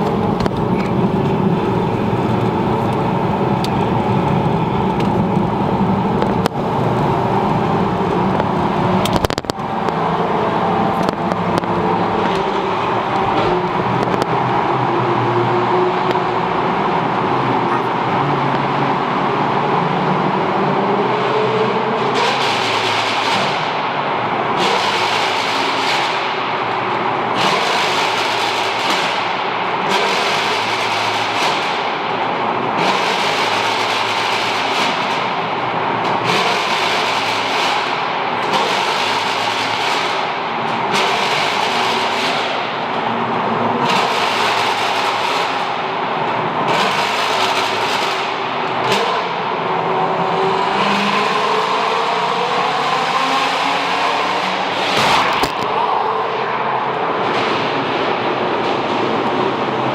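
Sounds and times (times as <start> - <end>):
car exhausts revving: 0.0 - 59.9
road noise: 0.0 - 59.9.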